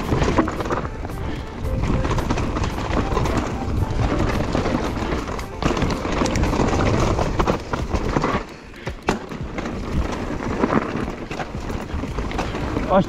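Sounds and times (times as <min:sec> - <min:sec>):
bike knocking and rattling: 0:00.0 - 0:13.0
tyres crunching over stones: 0:01.9 - 0:13.0.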